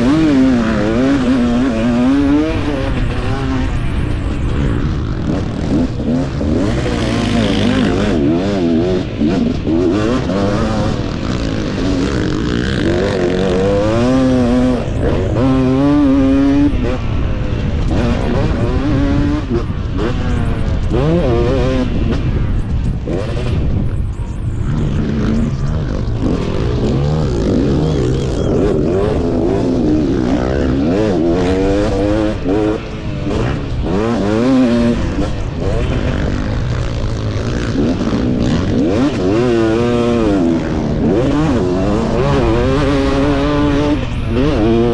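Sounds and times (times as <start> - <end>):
motocross engine revving: 0.0 - 44.9.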